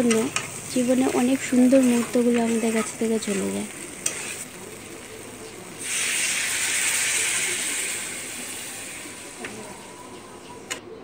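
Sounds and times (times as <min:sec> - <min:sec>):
food sizzling in hot oil: 0:00.0 - 0:10.7.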